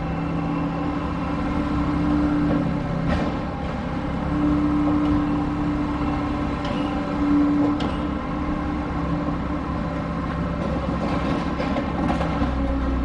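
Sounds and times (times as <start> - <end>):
diesel engine and hydraulics humming: 0.0 - 13.0.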